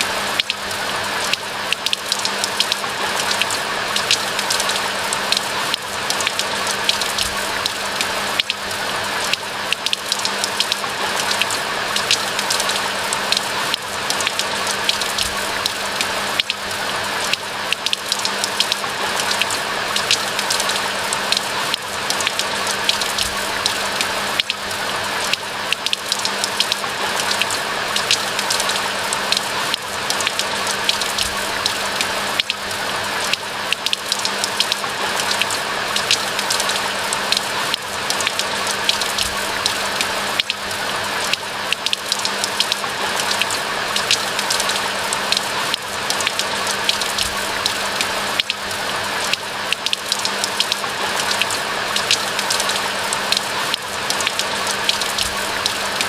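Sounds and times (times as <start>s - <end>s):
steady rain in forest: 0.0s - 56.0s.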